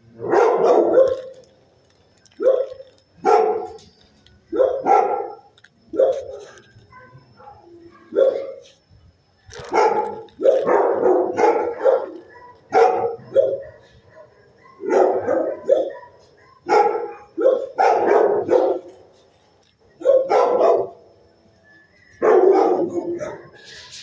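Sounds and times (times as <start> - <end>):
dogs barking: 0.2 - 1.5, 2.3 - 3.9, 4.5 - 8.8, 9.5 - 19.1, 19.9 - 21.1, 22.2 - 24.0.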